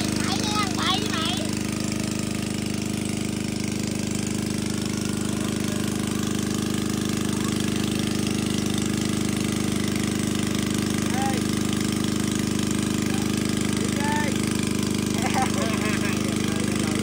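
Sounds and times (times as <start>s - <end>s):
water pump engine chugging: 0.0s - 17.0s.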